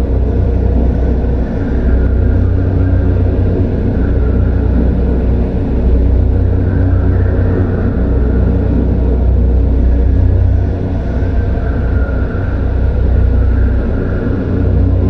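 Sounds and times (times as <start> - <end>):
deep rumbling drone: 0.0 - 15.0
faint eerie tone: 0.0 - 15.0.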